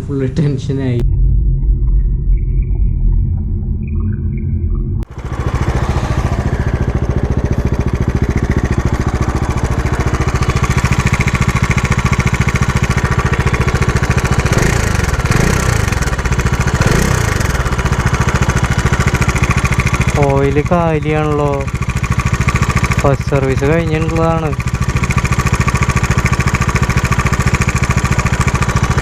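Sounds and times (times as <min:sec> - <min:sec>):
abnormal mechanical engine noise: 0:00.0 - 0:29.0
motorcycle engine running: 0:05.0 - 0:29.0.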